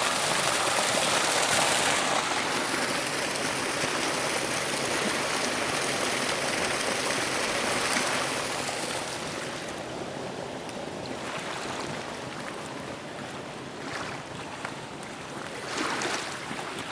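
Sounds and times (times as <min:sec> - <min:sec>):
motorboat engine: 0:00.0 - 0:16.9
water rushing along hull: 0:00.0 - 0:16.9.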